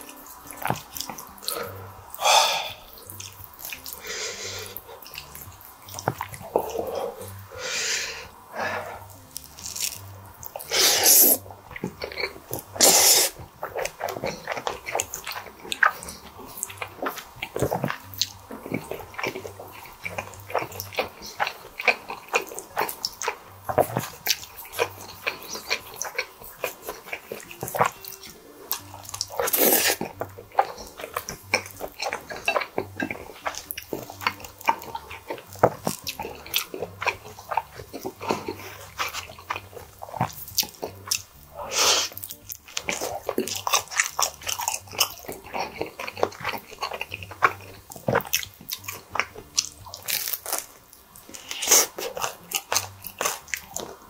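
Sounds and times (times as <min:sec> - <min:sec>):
chewing and lip smacking: 0:00.0 - 0:54.0
crunchy bites of pizza crust: 0:08.0 - 0:54.0.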